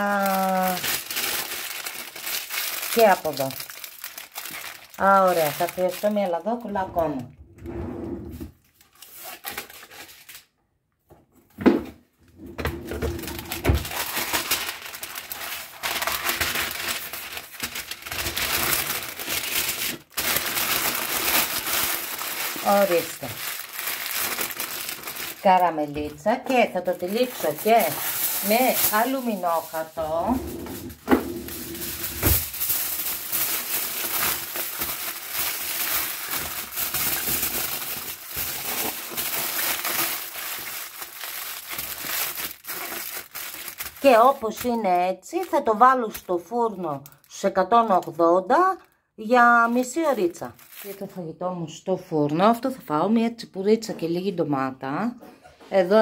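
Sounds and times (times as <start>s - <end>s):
baking paper crinkling: 0.0s - 7.2s, 8.5s - 10.5s, 12.9s - 48.1s, 49.6s - 51.3s.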